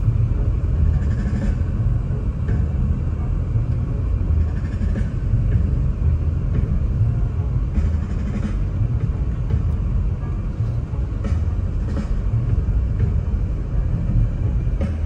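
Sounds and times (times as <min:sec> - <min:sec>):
car driving on snow interior: 0:00.0 - 0:15.0.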